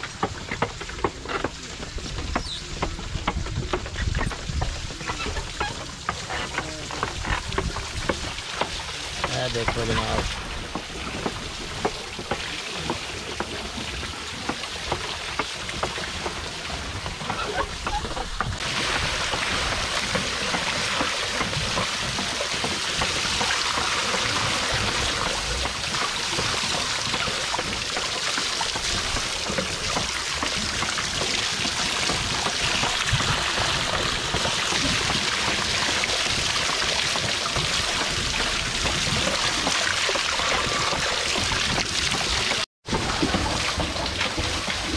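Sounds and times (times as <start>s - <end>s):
water pouring into trough: 0.0s - 44.9s.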